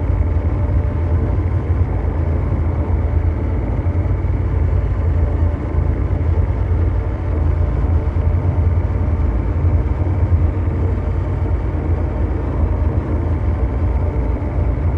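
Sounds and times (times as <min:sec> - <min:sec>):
mechanical drone rumble: 0:00.0 - 0:14.9.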